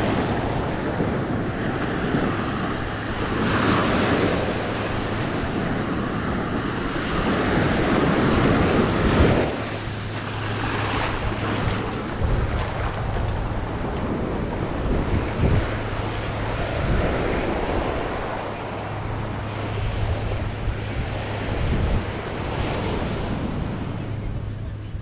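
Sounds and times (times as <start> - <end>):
surf breaking on beach: 0.0 - 24.2
wind buffeting microphone: 0.0 - 25.0.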